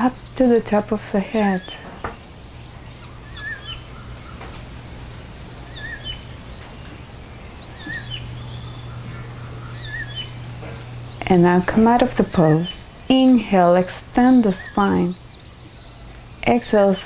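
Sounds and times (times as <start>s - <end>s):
bird chirping: 0.0s - 16.6s
steady low hum: 0.0s - 17.0s.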